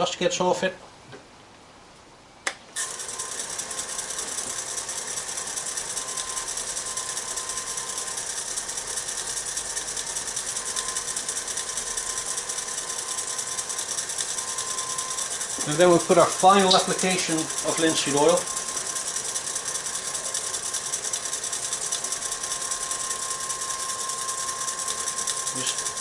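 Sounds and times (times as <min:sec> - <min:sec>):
wood lathe whirring: 0:02.8 - 0:26.0.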